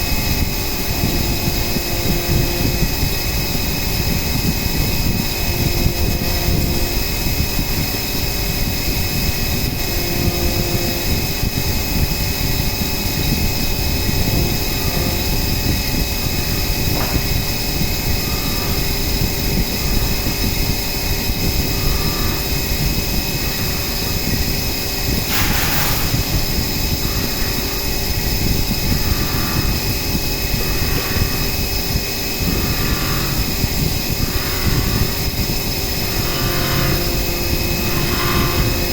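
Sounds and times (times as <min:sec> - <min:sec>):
constant noisy rumble: 0:00.0 - 0:38.9
milling machine whine: 0:00.0 - 0:38.9.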